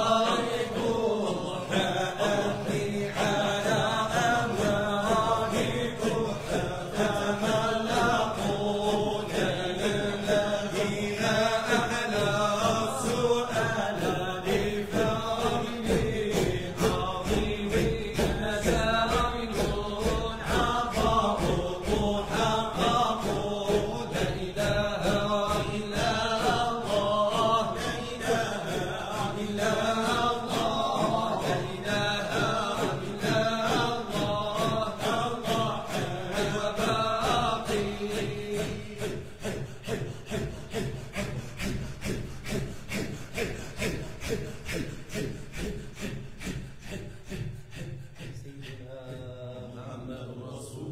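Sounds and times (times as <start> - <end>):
group chanting: 0.0 - 50.9.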